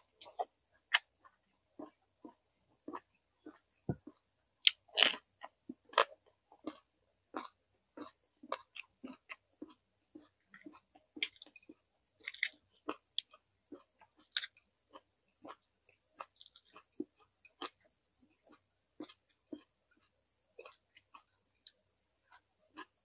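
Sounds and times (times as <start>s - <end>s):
person chewing crunchy food: 0.1s - 23.0s.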